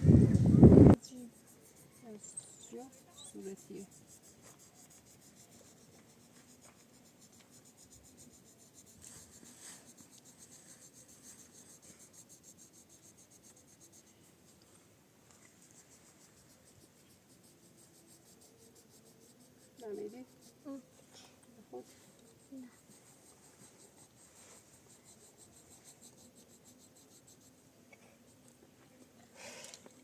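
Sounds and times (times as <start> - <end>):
faint fast scratching: 0.0 - 29.1.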